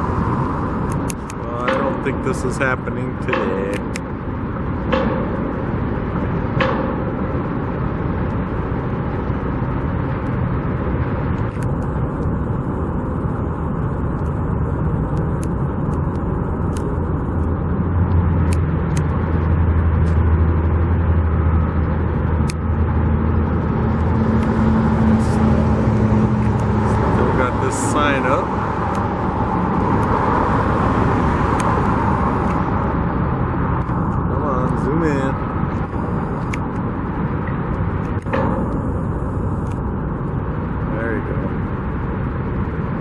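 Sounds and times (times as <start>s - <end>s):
traffic noise: 0.0s - 43.0s
vehicle engine hum: 0.0s - 43.0s.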